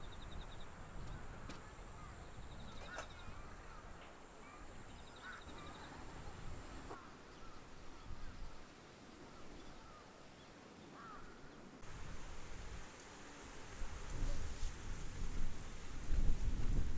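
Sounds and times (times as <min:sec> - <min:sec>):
faint outdoor ambience: 0:00.0 - 0:16.9.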